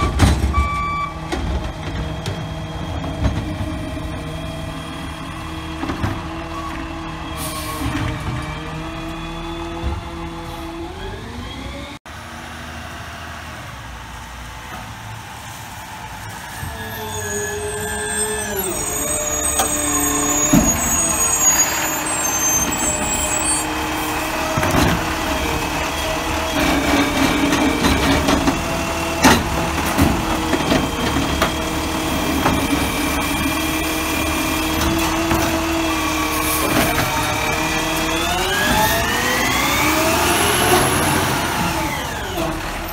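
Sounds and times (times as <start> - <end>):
garbage truck diesel engine: 0.0 - 42.9.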